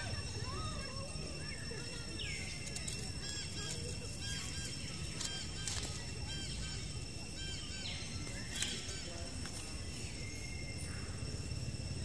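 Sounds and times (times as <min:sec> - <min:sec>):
high-pitched insect-like tones: 0:00.0 - 0:12.0.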